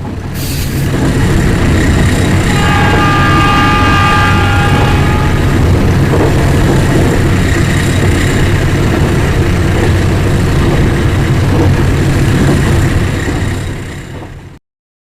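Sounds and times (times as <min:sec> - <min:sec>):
train engine rumble: 0:00.0 - 0:14.6.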